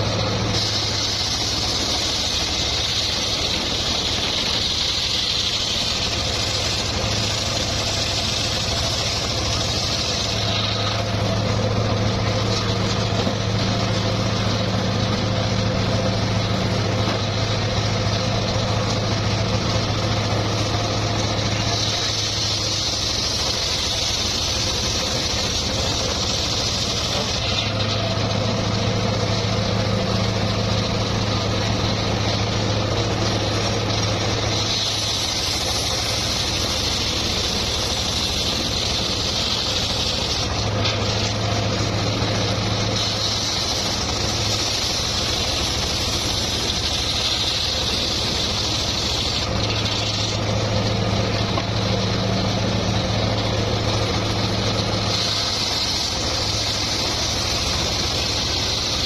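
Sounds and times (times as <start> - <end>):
circular sawmill sawing wood: 0.0 - 59.0.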